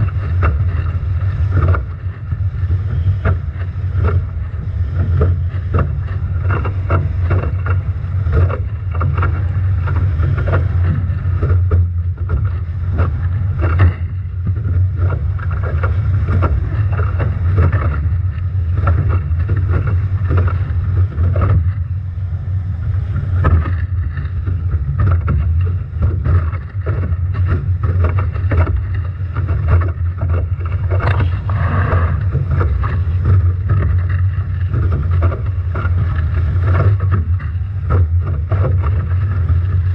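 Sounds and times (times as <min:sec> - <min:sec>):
water splashing against boat: 0:00.0 - 0:39.9
wind buffeting microphone: 0:00.0 - 0:39.9.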